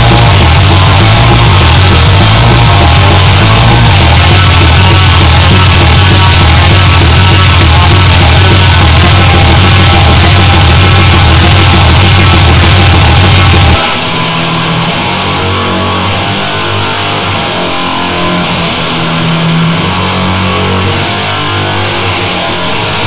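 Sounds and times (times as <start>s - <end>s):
electric guitar alone: 0.0s - 23.0s
metal band playing: 0.0s - 23.0s.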